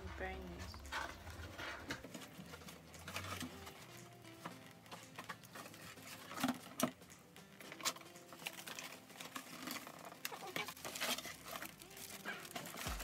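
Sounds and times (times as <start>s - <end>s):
wrapping crinkling and rustling: 0.0s - 13.0s.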